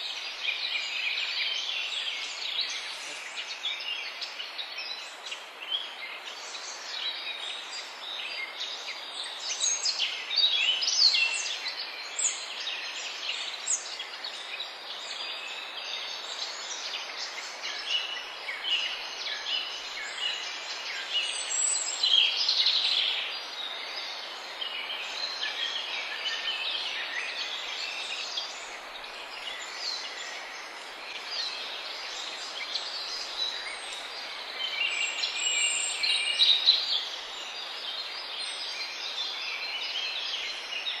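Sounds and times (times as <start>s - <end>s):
small birds chirping and trilling: 0.0s - 41.0s
steady background hiss: 0.0s - 41.0s.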